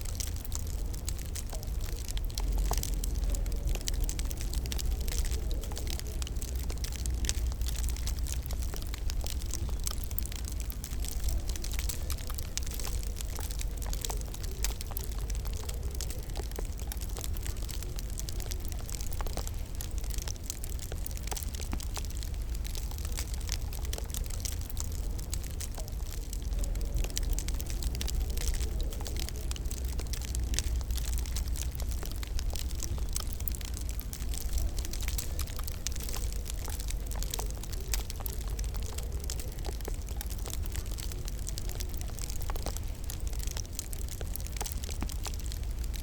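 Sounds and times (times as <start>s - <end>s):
low fire rumble: 0.0s - 46.0s
wood fire crackling and popping: 0.0s - 46.0s.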